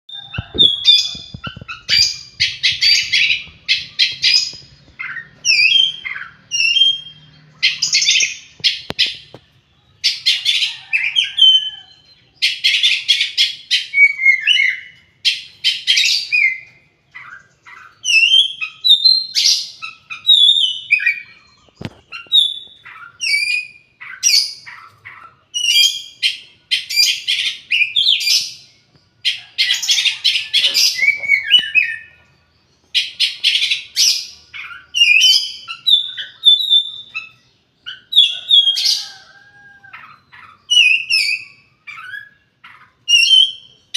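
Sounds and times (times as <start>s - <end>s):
bird raspy chattering: 0.1s - 9.4s, 10.0s - 28.6s, 29.2s - 43.9s
bird singing whistled notes: 0.1s - 28.9s, 29.8s - 39.5s, 40.4s - 43.9s.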